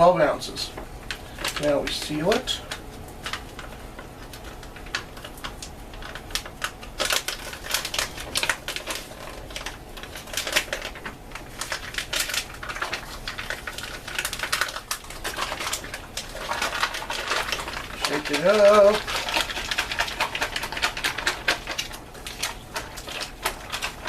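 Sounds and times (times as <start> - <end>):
plastic pouch crinkling: 0.8 - 24.0.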